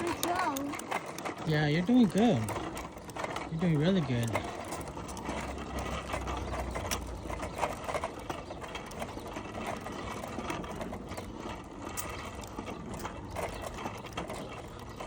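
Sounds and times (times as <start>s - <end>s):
bicycle chain ticking and rattling: 0.0s - 15.0s.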